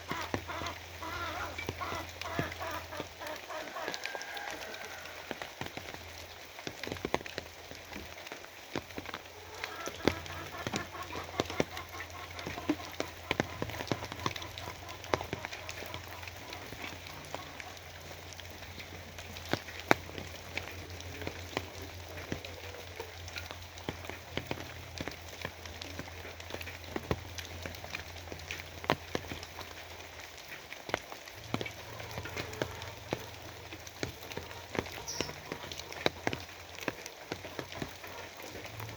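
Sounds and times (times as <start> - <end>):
rain drops striking a surface: 0.0 - 38.9.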